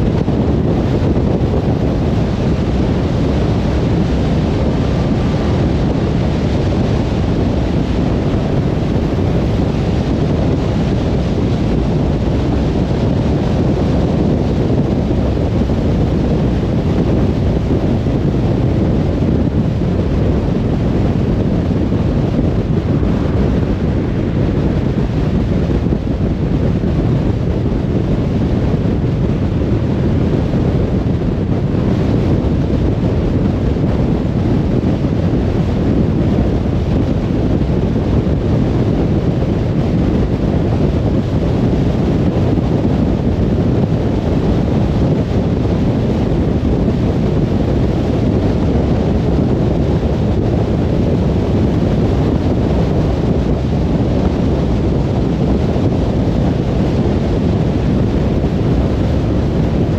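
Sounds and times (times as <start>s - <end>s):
wind rushing past car: 0.0s - 59.9s.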